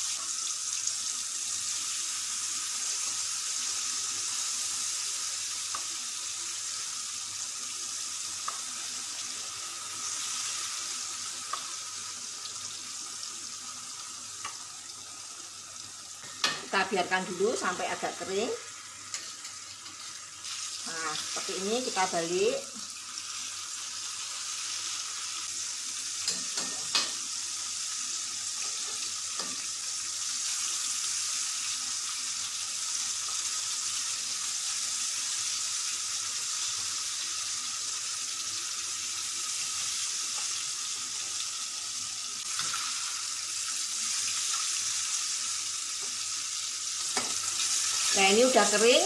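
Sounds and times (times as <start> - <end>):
batter sizzling in hot oil: 0.0 - 49.0.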